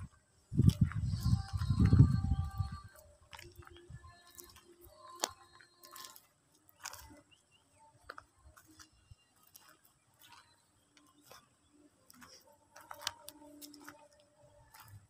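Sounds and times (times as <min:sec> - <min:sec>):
footsteps on a dirt path: 0:00.0 - 0:15.0.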